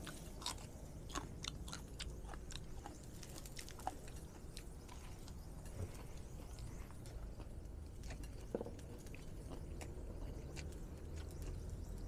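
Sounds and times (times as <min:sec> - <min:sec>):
person chewing crunchy food: 0:00.0 - 0:12.0.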